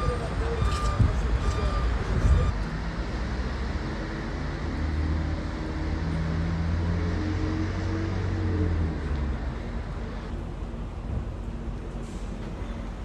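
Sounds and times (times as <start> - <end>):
large vehicle engine running: 0.0 - 13.0
steady traffic noise: 0.0 - 13.0.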